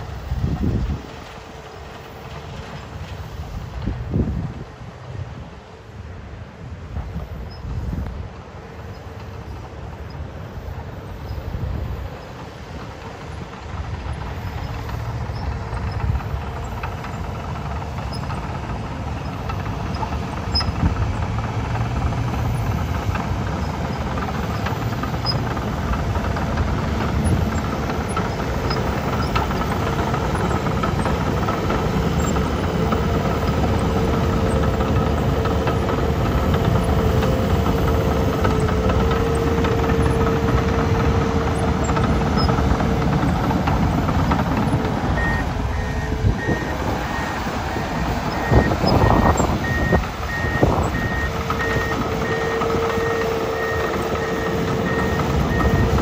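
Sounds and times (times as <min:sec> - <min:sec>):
bulldozer diesel engine under load: 0:00.0 - 0:56.0
bulldozer tracks clattering: 0:00.0 - 0:56.0
steady machine whine: 0:00.0 - 0:56.0.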